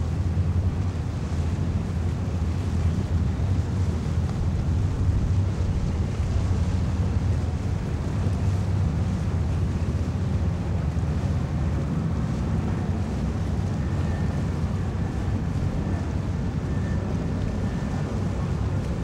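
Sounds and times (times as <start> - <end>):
motorboat engine rumble: 0.0 - 19.0
water noise: 0.0 - 19.0
wind buffeting microphone: 0.0 - 19.0.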